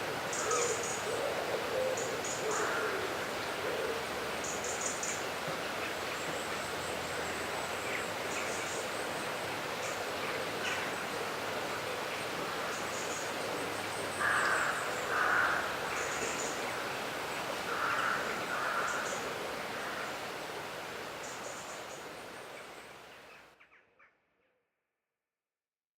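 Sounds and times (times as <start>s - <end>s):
river water flowing: 0.0s - 23.5s.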